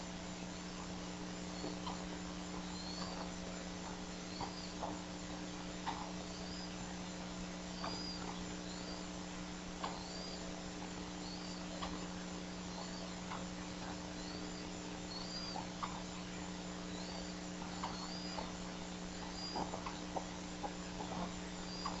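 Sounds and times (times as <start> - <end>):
electrical hum: 0.0 - 22.0
faint high bird chirps: 0.4 - 5.0, 5.8 - 9.2, 9.8 - 22.0.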